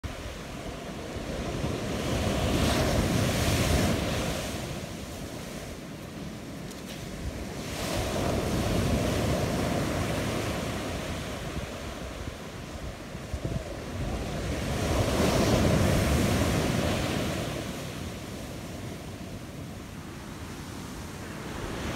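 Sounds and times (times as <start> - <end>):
ocean surf: 0.0 - 21.9
wind rumbling on microphone: 0.0 - 21.9.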